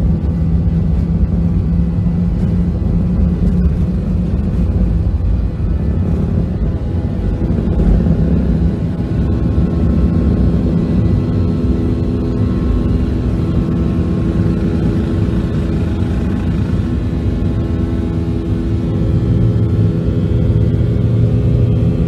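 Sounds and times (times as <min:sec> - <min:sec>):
jet engine rumble: 0:00.0 - 0:22.0
steady engine tones: 0:00.0 - 0:22.0.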